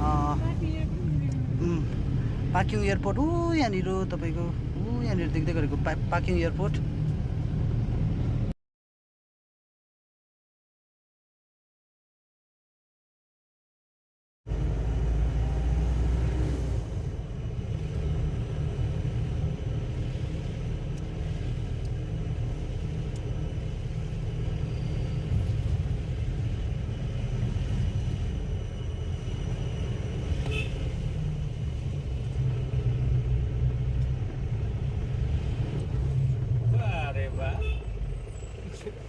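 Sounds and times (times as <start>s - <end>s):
car engine: 0.0s - 8.5s, 14.5s - 39.0s
road noise: 0.0s - 8.6s, 14.5s - 39.0s.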